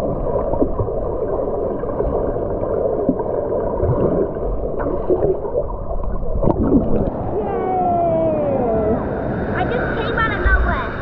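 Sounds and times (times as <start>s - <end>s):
muffled underwater rush: 0.0s - 11.0s
water bubbling and gurgling: 0.0s - 11.0s.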